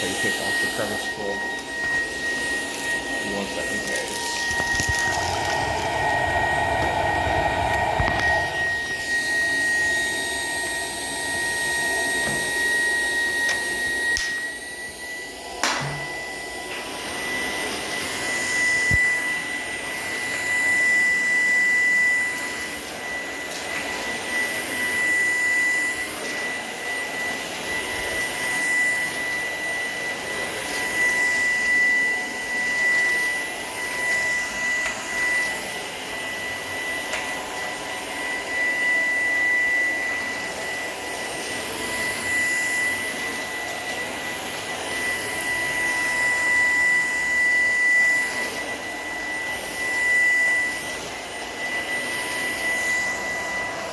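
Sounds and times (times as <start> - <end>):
vacuum cleaner whining: 0.0 - 53.9.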